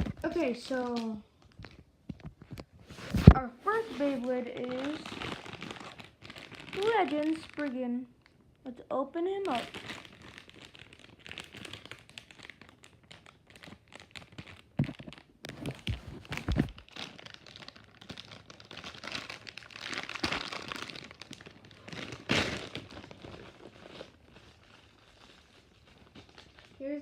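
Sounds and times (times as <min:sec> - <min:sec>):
packaging being torn and crinkled: 0:03.1 - 0:08.6, 0:09.3 - 0:26.9.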